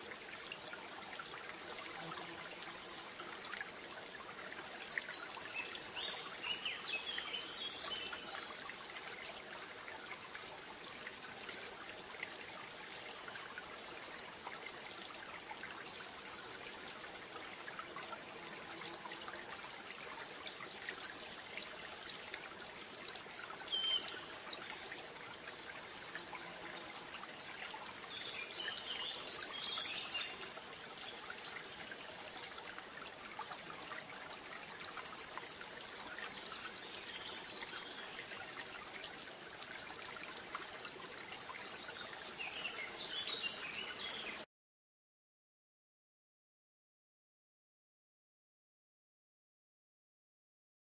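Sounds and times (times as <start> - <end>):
trickle of running water: 0.0 - 44.5.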